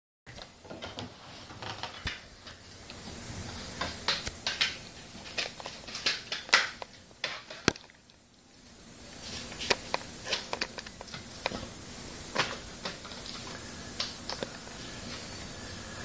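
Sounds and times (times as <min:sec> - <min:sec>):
faint steady hiss: 0:00.3 - 0:16.0.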